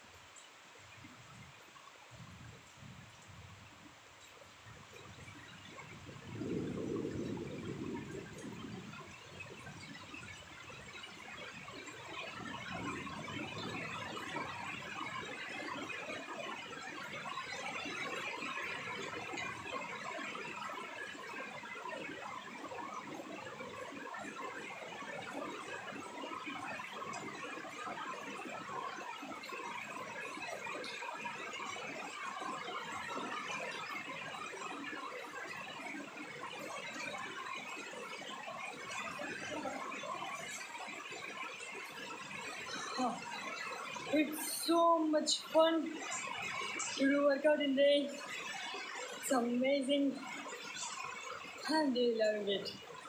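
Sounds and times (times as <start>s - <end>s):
rain pattering on concrete: 0.0s - 53.0s.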